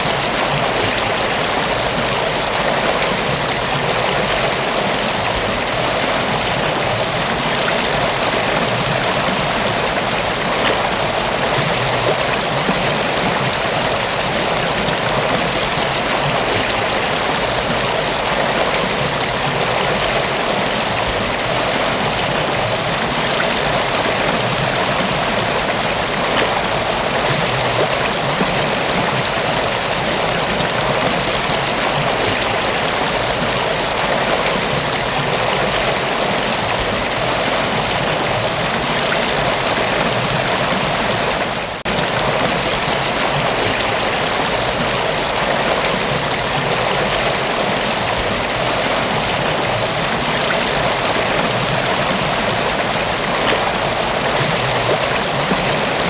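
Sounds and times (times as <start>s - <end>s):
waterfall rushing water: 0.0s - 56.0s.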